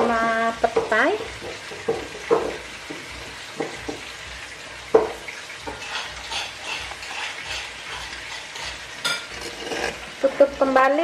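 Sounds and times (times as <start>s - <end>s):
sizzling and crackling pot: 0.0s - 11.0s.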